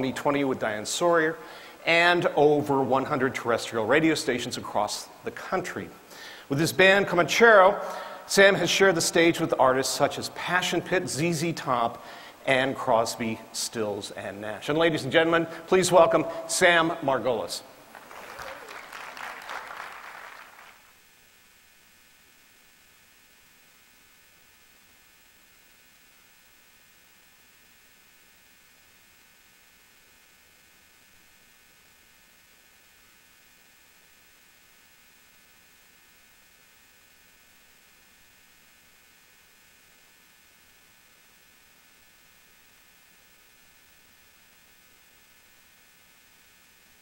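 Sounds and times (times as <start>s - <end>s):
faint electrical hum and hiss: 0.0s - 47.0s.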